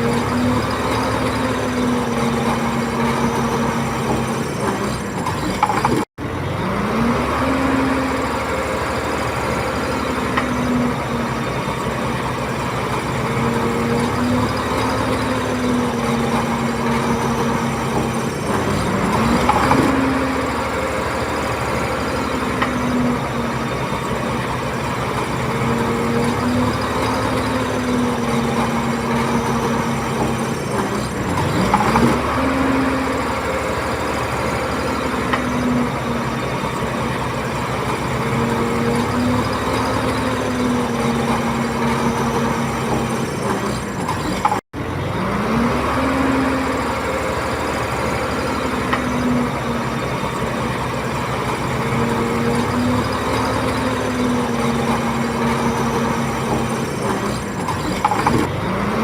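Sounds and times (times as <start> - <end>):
bulldozer engine under load: 0.0 - 59.0.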